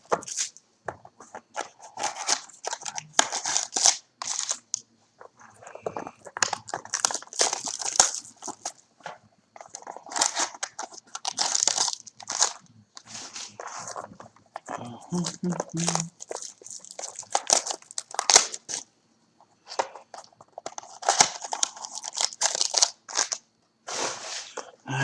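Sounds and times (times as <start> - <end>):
packaging crinkling and rustling: 0.0 - 18.9, 19.6 - 24.8.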